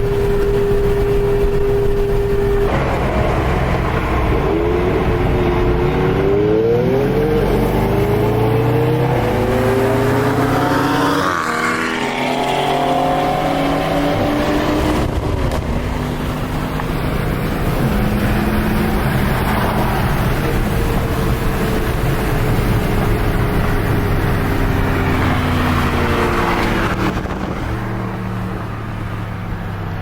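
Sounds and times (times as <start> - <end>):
car engines revving and shifting: 0.0 - 30.0.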